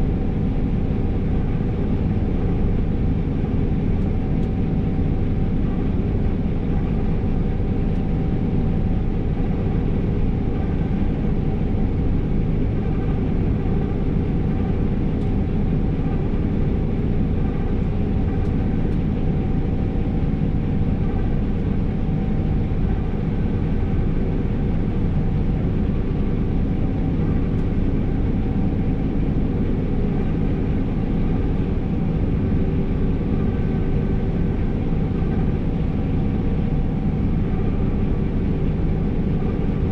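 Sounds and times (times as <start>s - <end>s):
combine harvester engine drone: 0.0s - 39.9s
faint steady whines: 0.0s - 39.9s.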